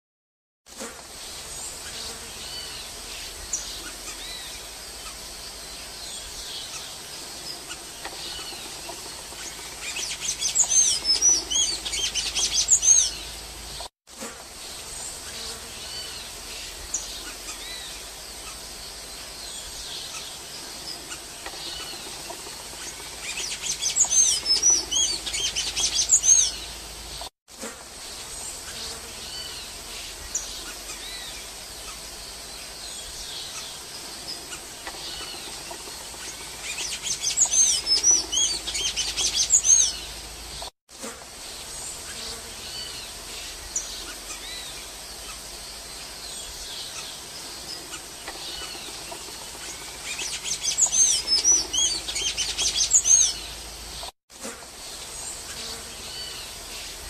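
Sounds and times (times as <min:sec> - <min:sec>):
bird twittering song: 0:01.5 - 0:13.9, 0:14.7 - 0:27.3, 0:28.4 - 0:40.7, 0:41.7 - 0:54.1.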